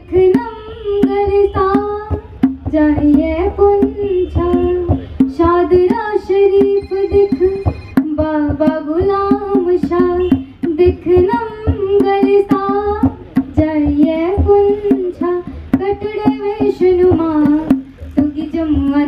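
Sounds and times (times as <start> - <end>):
instrumental accompaniment with beat: 0.0 - 19.0.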